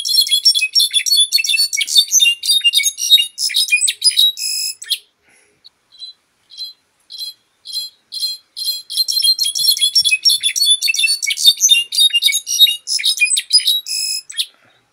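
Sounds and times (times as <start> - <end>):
bird singing ringing notes: 0.0 - 5.0, 5.9 - 14.5.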